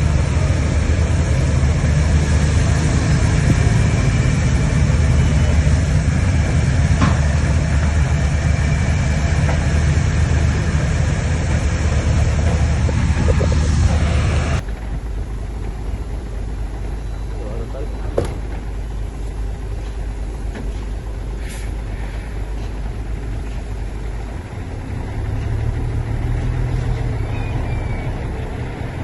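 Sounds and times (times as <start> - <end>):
bulldozer diesel engine rumbling: 0.0 - 29.0
distant engine: 0.0 - 29.0.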